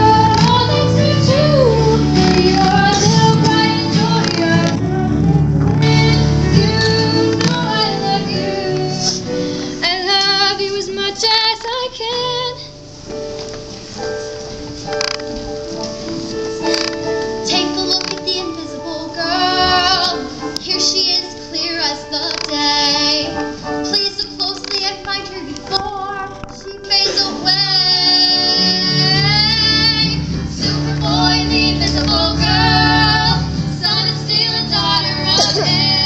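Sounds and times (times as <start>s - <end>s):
girls singing a duet: 0.0s - 12.7s, 17.4s - 36.0s
instrumental accompaniment: 0.0s - 36.0s.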